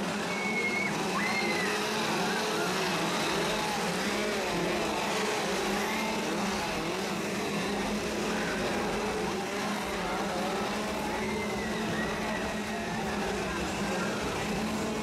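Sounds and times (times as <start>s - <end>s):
chainsaw engines revving: 0.0s - 15.0s.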